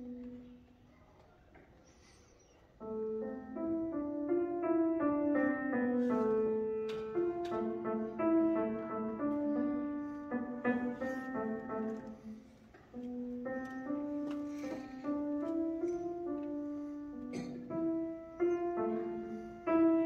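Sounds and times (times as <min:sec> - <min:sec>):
grand piano: 0:00.0 - 0:20.0.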